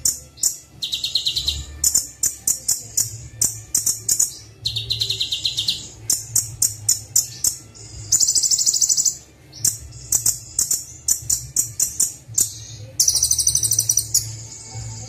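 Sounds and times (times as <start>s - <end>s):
rapid buzzy bird trills: 0.0s - 14.3s
bird singing high chips: 0.0s - 14.5s.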